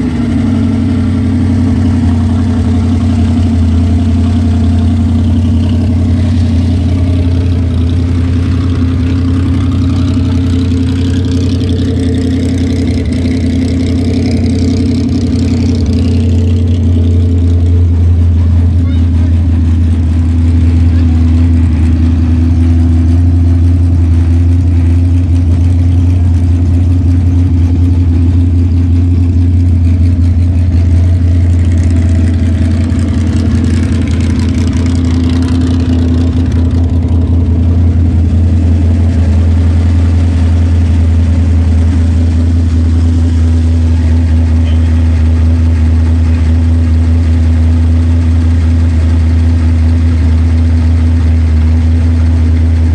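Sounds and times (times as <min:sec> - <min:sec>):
engine running with low rumble: 0:00.0 - 0:52.9.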